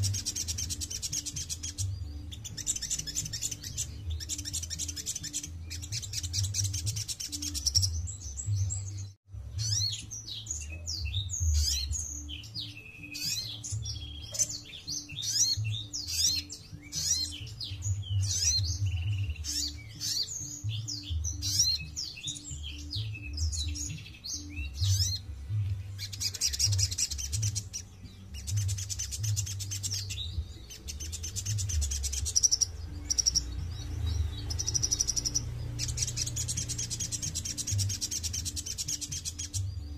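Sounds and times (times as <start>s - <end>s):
buzzy high bird trills: 0.0s - 8.3s, 11.4s - 25.3s, 26.0s - 39.7s
bird twittering chirps: 0.0s - 39.9s.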